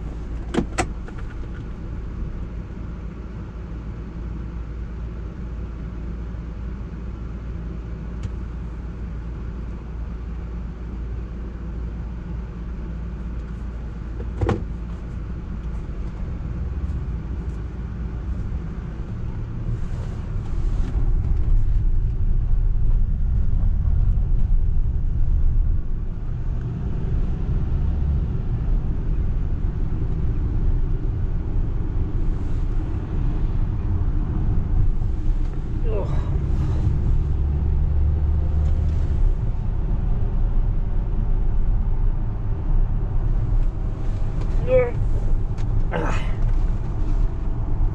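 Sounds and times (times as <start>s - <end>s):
road and tyre rumble in car: 0.0s - 47.9s.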